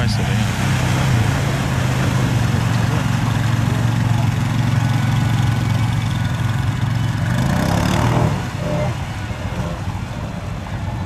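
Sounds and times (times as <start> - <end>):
quad bike engine running: 0.0 - 11.0
wheels churning through mud: 0.0 - 11.0.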